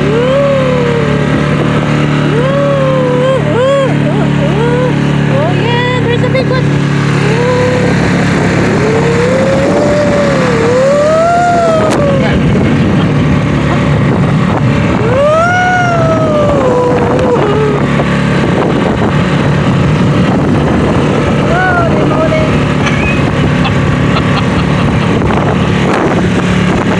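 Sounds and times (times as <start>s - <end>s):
small outboard motor running: 0.0s - 26.9s.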